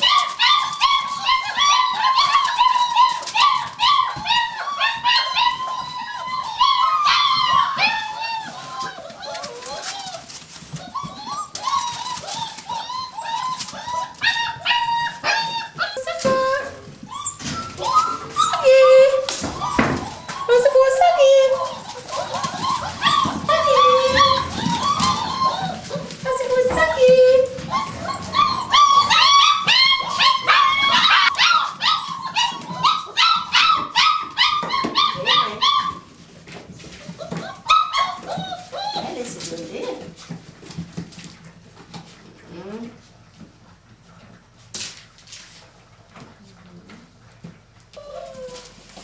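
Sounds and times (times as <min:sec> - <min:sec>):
puppies whining and squeaking: 0:00.0 - 0:49.0.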